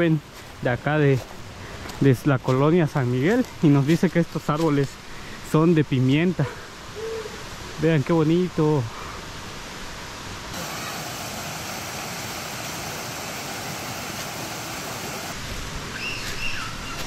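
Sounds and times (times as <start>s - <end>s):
flowing water rushing: 1.2s - 16.9s.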